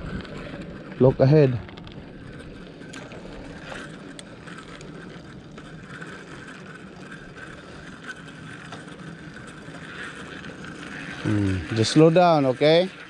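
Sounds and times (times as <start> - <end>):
bicycle rolling: 0.0 - 13.0.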